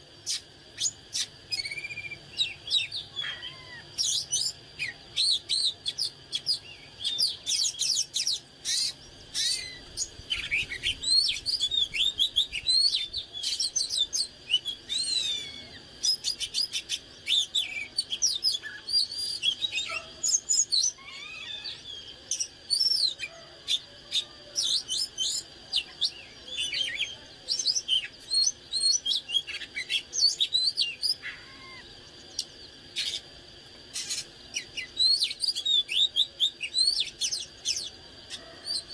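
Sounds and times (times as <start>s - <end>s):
faint steady high tone: 0.0s - 38.9s
bird singing whistles and chirps: 0.2s - 33.2s, 33.9s - 38.9s.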